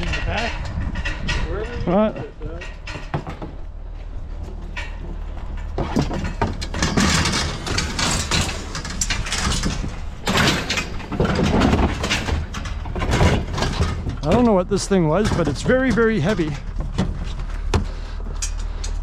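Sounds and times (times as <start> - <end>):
scrap metal scraping and clattering: 0.0 - 19.0.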